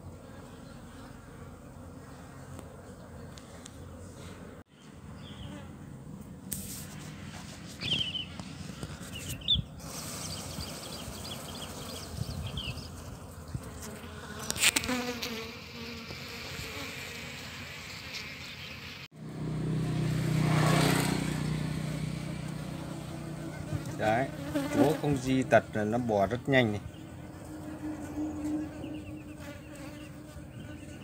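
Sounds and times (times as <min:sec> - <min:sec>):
honey bees buzzing: 0:00.0 - 0:31.0.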